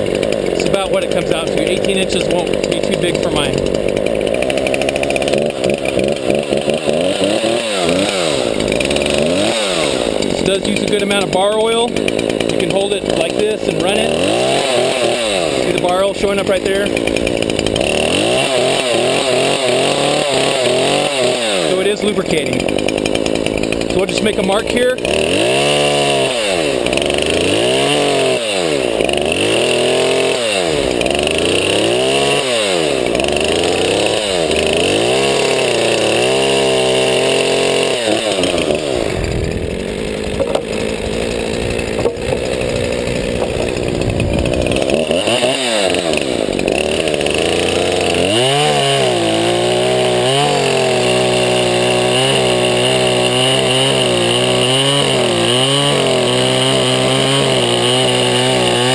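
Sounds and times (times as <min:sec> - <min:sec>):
chainsaw cutting logs: 0:00.0 - 0:58.9.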